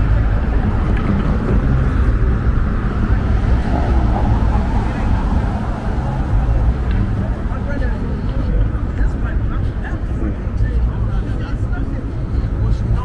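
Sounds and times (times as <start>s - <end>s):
cars driving: 0.0s - 13.0s
faint voices: 0.0s - 13.0s
wind rumbling on microphone: 0.0s - 13.0s.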